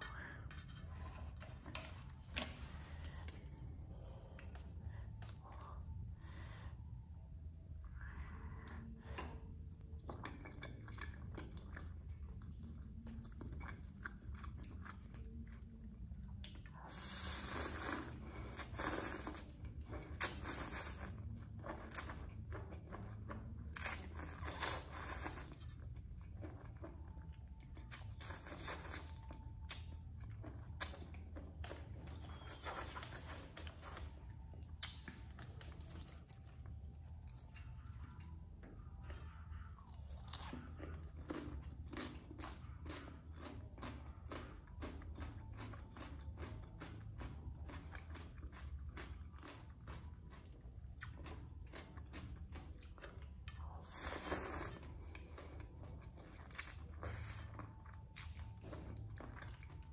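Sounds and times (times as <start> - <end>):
low steady hum: 0.0 - 59.9
close chewing with wet clicks: 9.2 - 16.7, 18.6 - 59.9.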